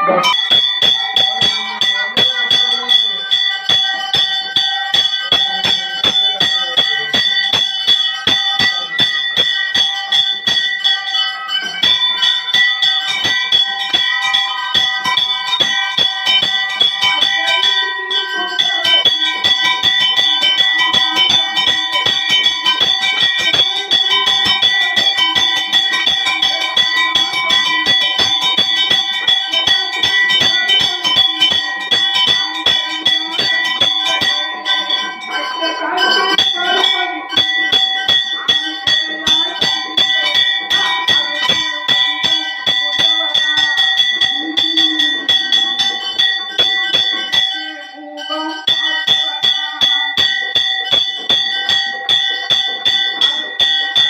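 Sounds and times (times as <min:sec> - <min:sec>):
temple bells ringing: 0:00.0 - 0:54.0.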